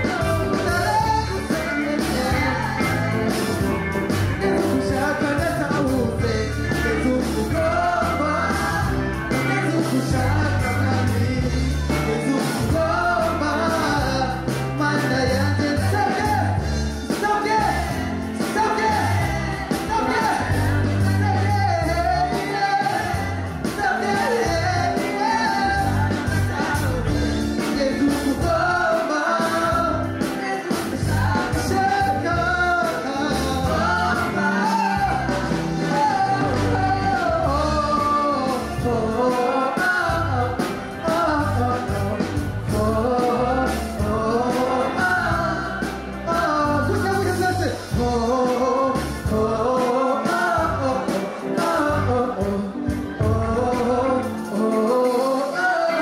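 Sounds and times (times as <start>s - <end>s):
heavy pulsing bass: 0.0s - 28.9s, 30.9s - 39.3s, 40.0s - 48.4s
man singing lead: 0.0s - 56.0s.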